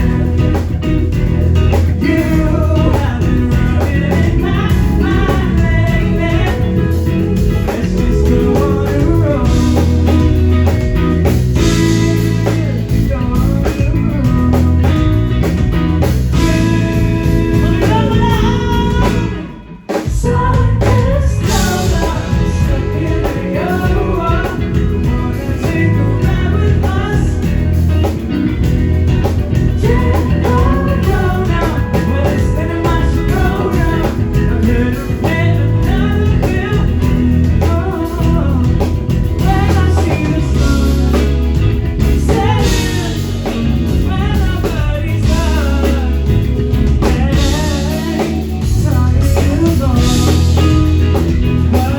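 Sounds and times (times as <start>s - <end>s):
drum kit: 0.0s - 51.9s
guitar: 0.0s - 51.9s
person singing lead vocal: 0.0s - 51.9s.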